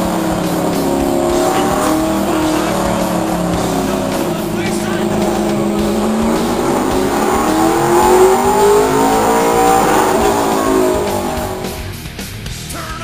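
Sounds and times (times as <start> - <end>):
race car engine revving: 0.0 - 12.5.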